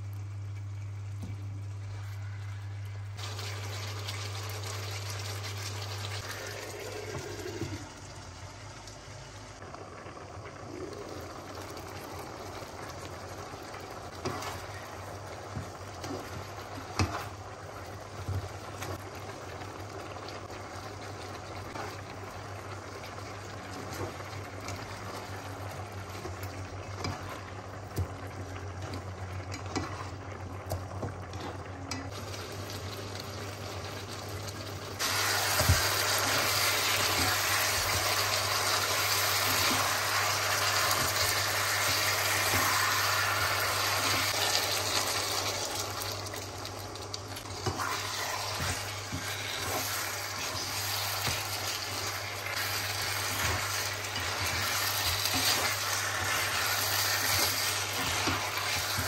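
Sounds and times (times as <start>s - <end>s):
chicken sizzling in a wok: 0.0s - 9.6s, 10.3s - 59.0s.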